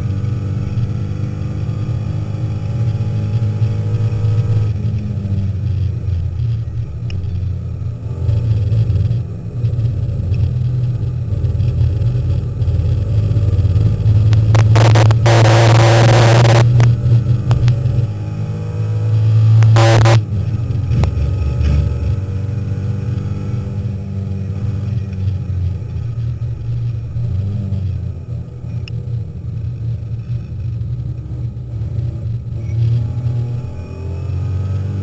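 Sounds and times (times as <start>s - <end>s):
race car engine: 0.0s - 35.0s.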